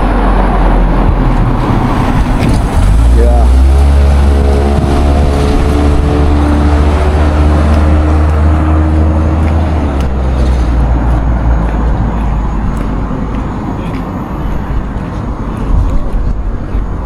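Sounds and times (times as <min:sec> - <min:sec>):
engine hum: 0:00.0 - 0:17.0
vehicle engine and road noise: 0:00.0 - 0:17.0.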